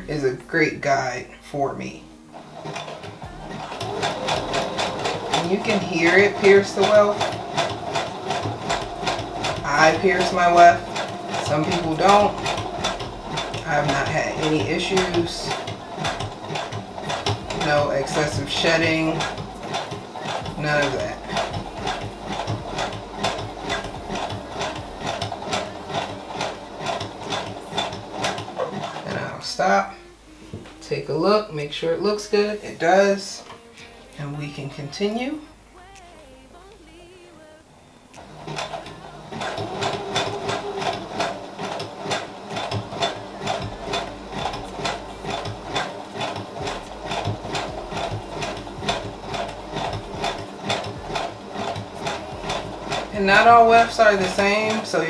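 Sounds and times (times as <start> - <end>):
sewing machine stitching: 0.0 - 29.9, 38.2 - 55.0.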